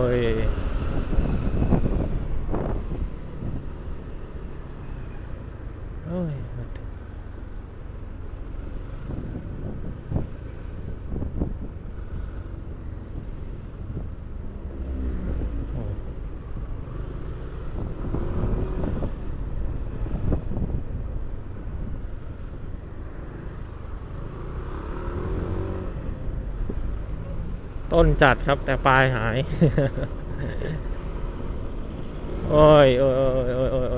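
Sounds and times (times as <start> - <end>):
low wind rumble: 0.0 - 33.9.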